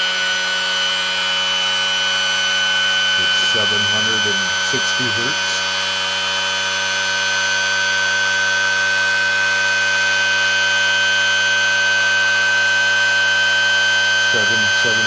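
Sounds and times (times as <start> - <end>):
electric motor high-pitched whine: 0.0 - 15.0.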